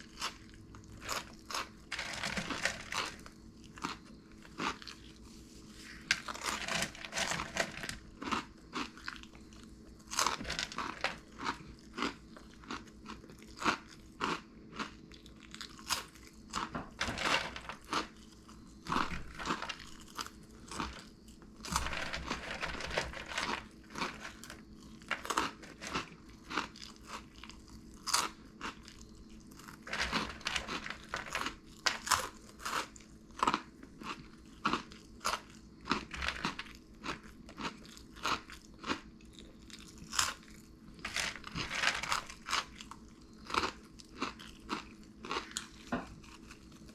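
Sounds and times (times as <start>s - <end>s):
crunchy snacks being chewed: 0.0s - 46.9s
faint steady hum: 0.0s - 46.9s.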